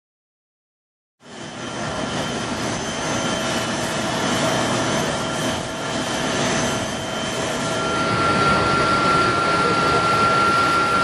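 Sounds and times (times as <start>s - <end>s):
jet turbine running: 1.2s - 11.0s.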